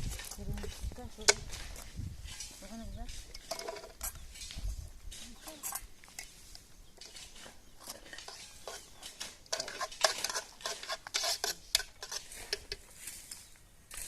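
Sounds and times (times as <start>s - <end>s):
metal utensil scraping in a pot: 2.2s - 14.0s.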